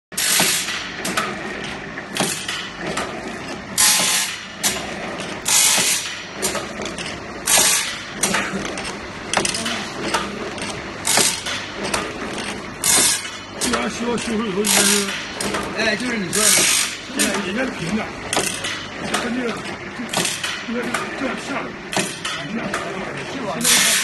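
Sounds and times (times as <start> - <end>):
steady machine noise: 0.1 - 24.0
sharp mechanical clicks: 0.2 - 21.1.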